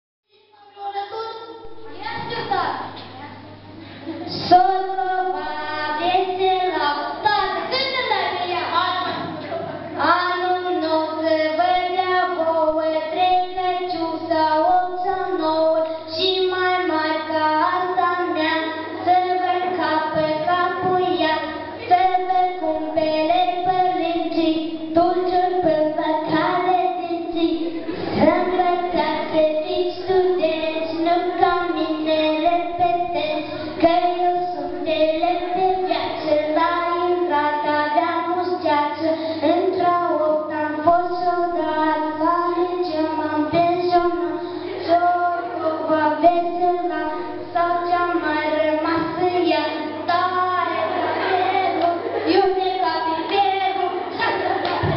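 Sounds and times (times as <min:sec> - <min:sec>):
low electrical hum: 0:00.3 - 0:54.9
child singing into microphone: 0:04.2 - 0:54.9.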